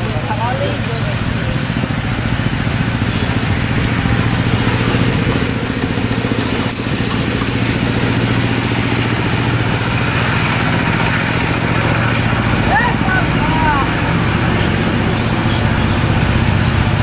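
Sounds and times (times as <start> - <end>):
small diesel engine running: 0.0 - 17.0.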